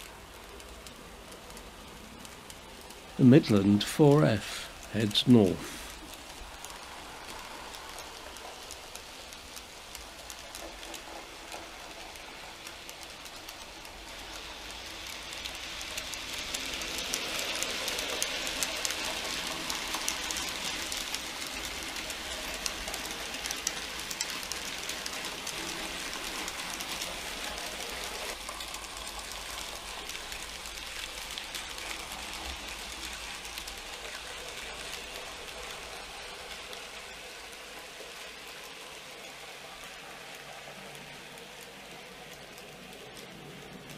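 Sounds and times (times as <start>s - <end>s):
model train wheels clicking on rails: 0.0s - 43.9s.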